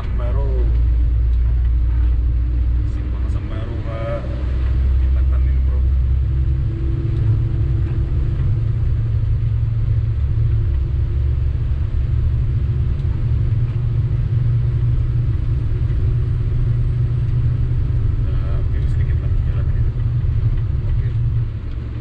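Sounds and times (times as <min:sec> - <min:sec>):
dump truck engine rumble: 0:00.0 - 0:22.0.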